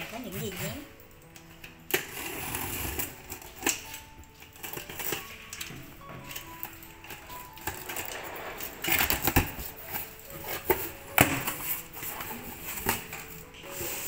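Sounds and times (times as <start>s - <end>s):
cardboard scraping and rustling: 1.9s - 3.8s, 4.6s - 14.0s.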